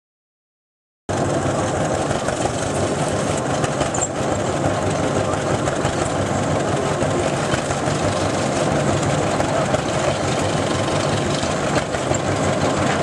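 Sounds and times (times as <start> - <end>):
tractor engine running: 1.1 - 13.0.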